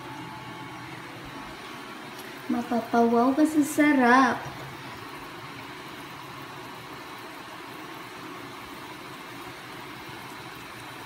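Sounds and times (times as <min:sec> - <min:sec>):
gas burner hissing: 0:00.0 - 0:11.0.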